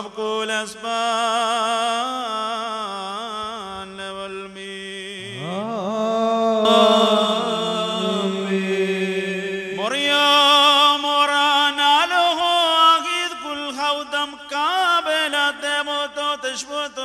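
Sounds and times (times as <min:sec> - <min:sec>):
liturgical chant: 0:00.0 - 0:17.0.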